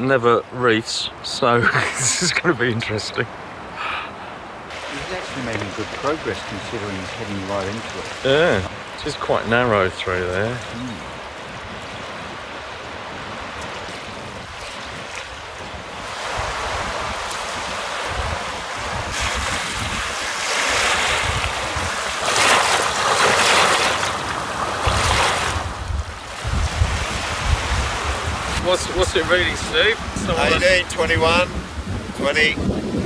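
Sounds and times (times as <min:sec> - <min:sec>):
choppy water washing: 0:00.0 - 0:33.0
gusty wind buffeting microphone: 0:03.4 - 0:33.0.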